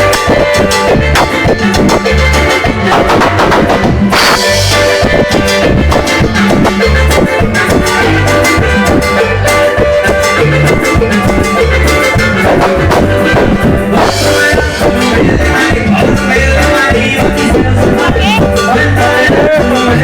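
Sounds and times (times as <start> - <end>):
latin dance music on keyboard: 0.0 - 20.0.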